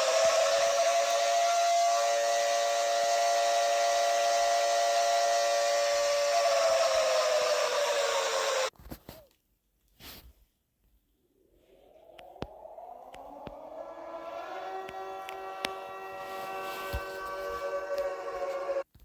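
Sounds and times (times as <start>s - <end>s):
warning siren with whirring hiss: 0.0s - 8.7s, 11.5s - 18.8s.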